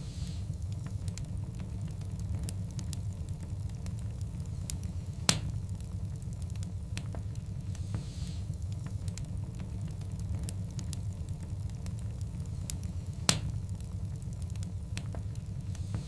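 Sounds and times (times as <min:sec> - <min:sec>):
low rumble of flames: 0:00.0 - 0:16.0
wood fire crackles and pops: 0:00.0 - 0:16.0.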